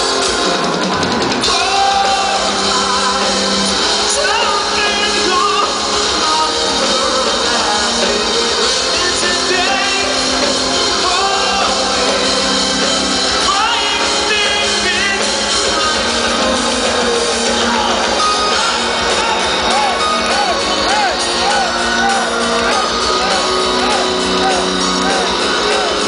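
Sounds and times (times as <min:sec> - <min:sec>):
live metal band playing: 0:00.0 - 0:26.0
man singing: 0:01.4 - 0:26.0.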